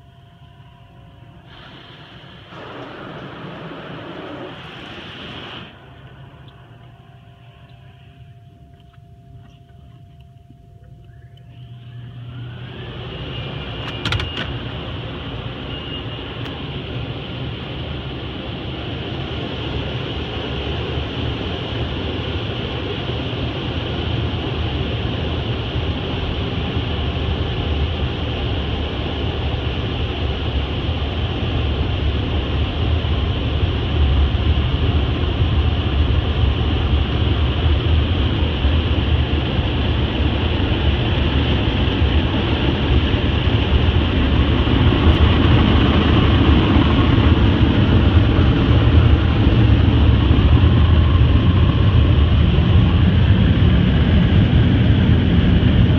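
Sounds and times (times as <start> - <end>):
rushing noise inside car: 0.0 - 55.9
deep rumble: 0.7 - 55.9.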